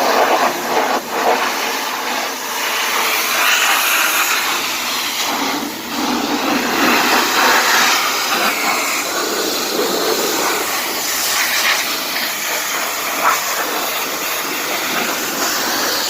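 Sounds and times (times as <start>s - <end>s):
pressure washer water jet spraying: 0.0s - 16.0s.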